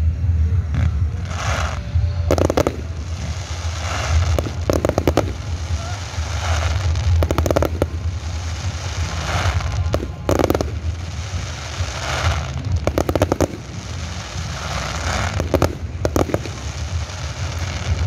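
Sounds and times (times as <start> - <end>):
crackling firework stars: 0.0 - 18.0
steady low rumble: 0.0 - 18.0
firework shells bursting: 1.4 - 18.0.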